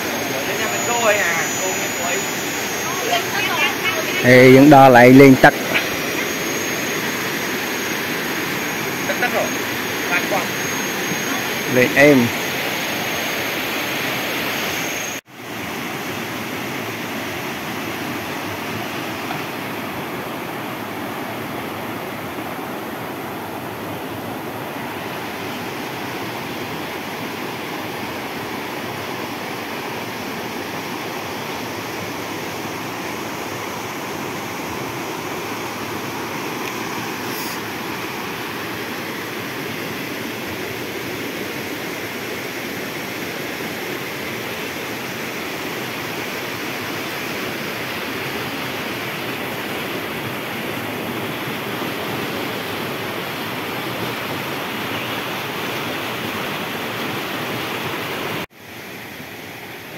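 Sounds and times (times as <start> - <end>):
rocky stream rushing: 0.0 - 59.9.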